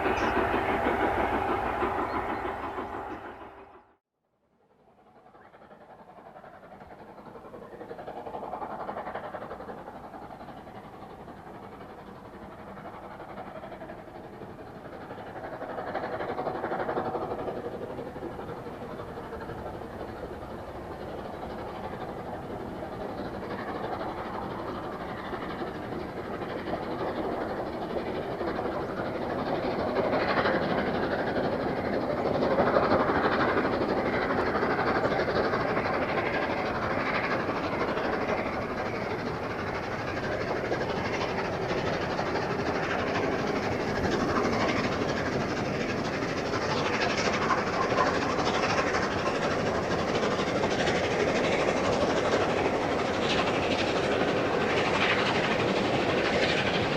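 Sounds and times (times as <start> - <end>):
steam locomotive hauling train: 0.0 - 4.0, 4.6 - 56.9.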